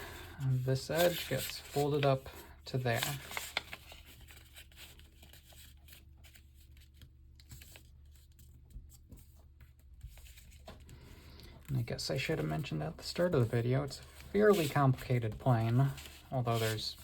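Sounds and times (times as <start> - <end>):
paper being folded and creased: 0.1 - 17.0.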